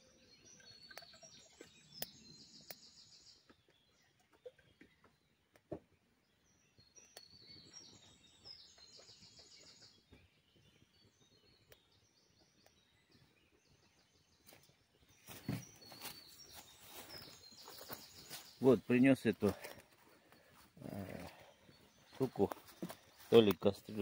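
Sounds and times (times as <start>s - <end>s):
small birds singing: 0.0s - 24.0s.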